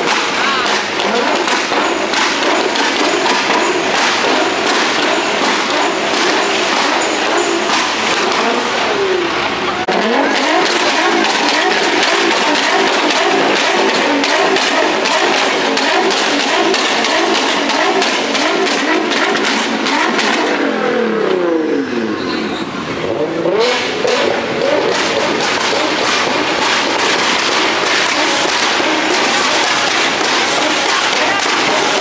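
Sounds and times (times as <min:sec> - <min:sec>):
exhaust crackles: 0:00.0 - 0:32.0
sports car engine revving: 0:00.0 - 0:32.0.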